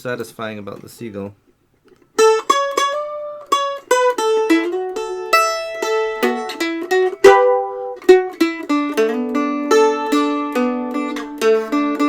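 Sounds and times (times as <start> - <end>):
mandolin picked melody: 1.9 - 12.0.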